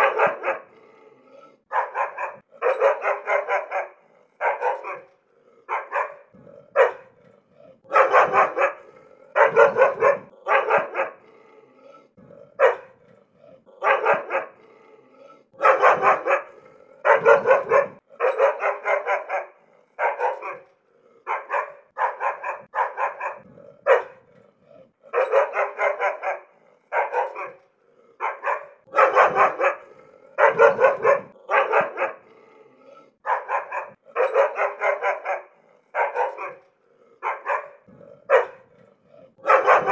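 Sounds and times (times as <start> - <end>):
dog barking angrily: 0.0 - 39.9.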